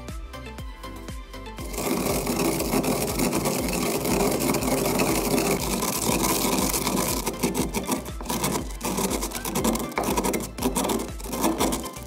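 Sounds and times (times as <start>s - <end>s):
pestle grinding rice in stone mortar: 1.6s - 12.0s.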